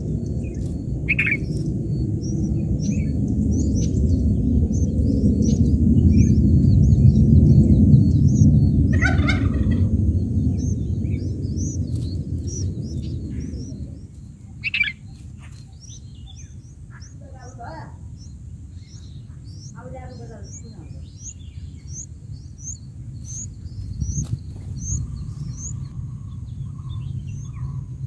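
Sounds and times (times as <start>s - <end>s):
low rumble: 0.0s - 28.0s
nestlings chirping: 0.0s - 28.0s.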